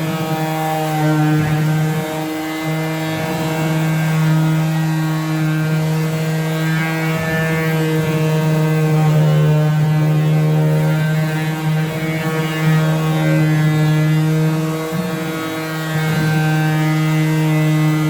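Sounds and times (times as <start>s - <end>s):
power sander on wood: 0.0s - 18.0s.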